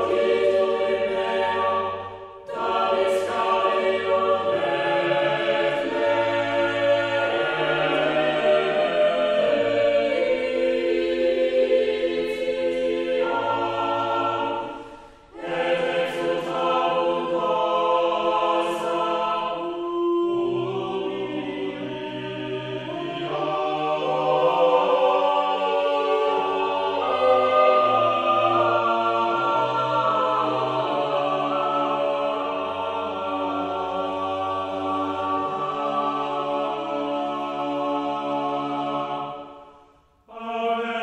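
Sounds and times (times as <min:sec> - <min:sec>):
choir singing sustained chords: 0:00.0 - 0:41.0.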